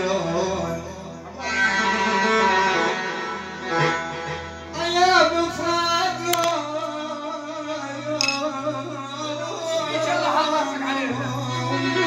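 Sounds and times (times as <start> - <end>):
man singing: 0.0 - 3.2, 4.7 - 12.0
plucked string instrument music: 0.0 - 12.0.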